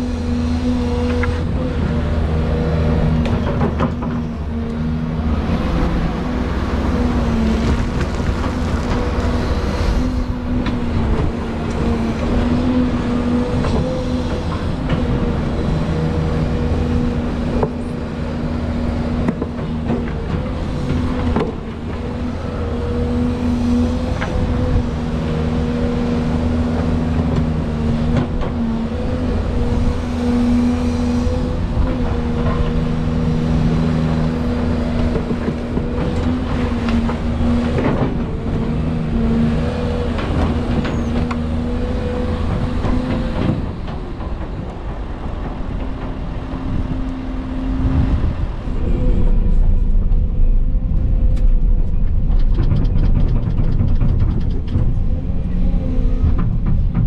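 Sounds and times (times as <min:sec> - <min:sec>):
excavator engine and hydraulics: 0:00.0 - 0:57.0.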